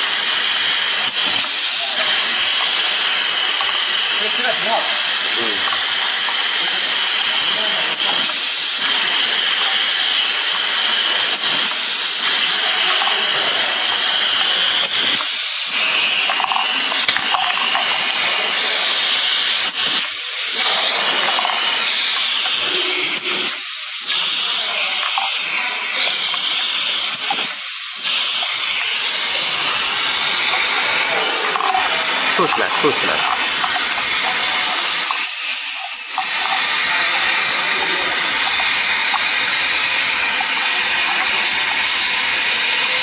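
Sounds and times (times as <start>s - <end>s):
loud pneumatic hiss: 0.0s - 42.4s.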